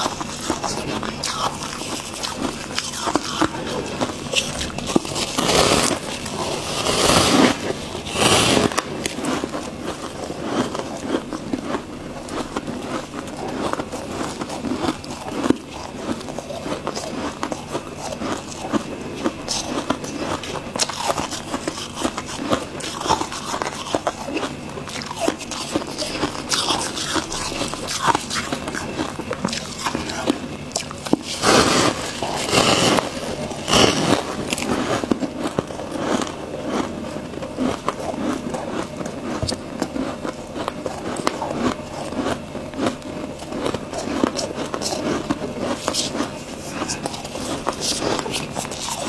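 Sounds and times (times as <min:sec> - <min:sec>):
person chewing crunchy ice: 0:00.0 - 0:49.0.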